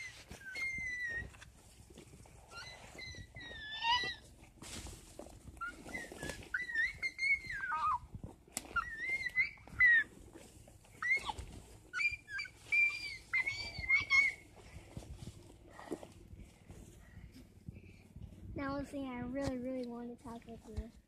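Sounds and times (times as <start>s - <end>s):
brush rustling underfoot: 0.0s - 20.9s.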